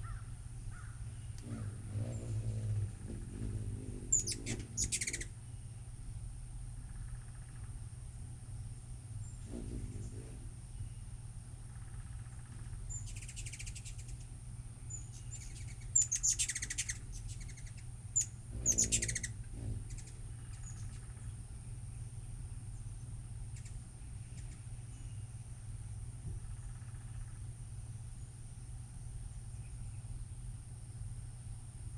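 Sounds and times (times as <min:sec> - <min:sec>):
hummingbirds chittering: 0:00.0 - 0:31.9
steady low hum: 0:00.0 - 0:31.9.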